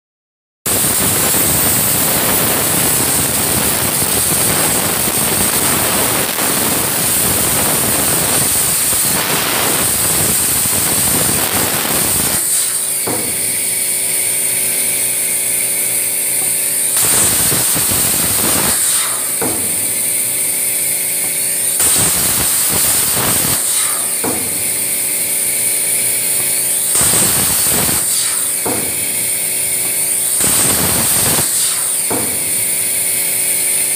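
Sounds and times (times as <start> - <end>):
plasma arc hissing: 0.7 - 33.9
steady machine hum: 0.7 - 33.9.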